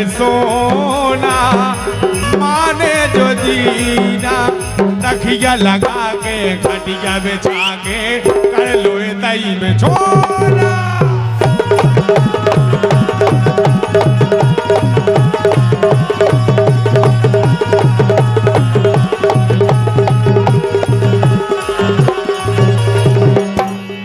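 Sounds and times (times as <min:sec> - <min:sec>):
fast hand drum strokes: 0:00.0 - 0:24.0.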